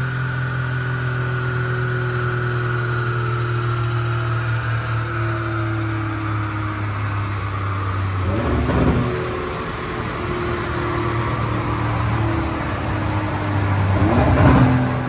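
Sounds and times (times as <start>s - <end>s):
car engine revving on dyno: 0.0s - 15.0s.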